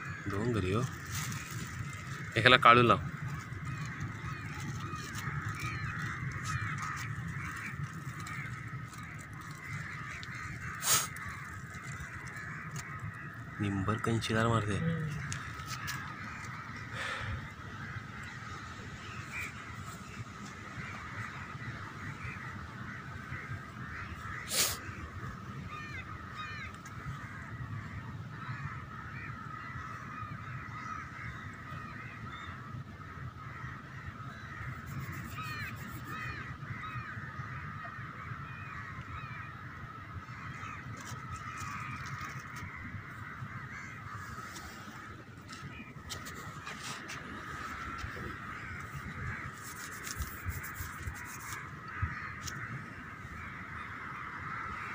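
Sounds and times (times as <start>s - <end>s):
birds chattering and calling: 0.0s - 54.9s
crows cawing: 0.0s - 54.9s.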